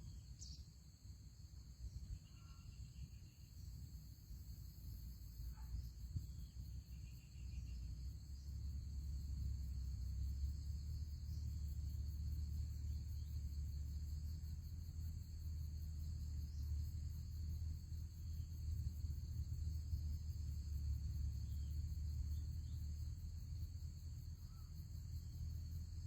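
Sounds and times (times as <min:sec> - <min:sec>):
insect chirring: 0:01.7 - 0:26.0.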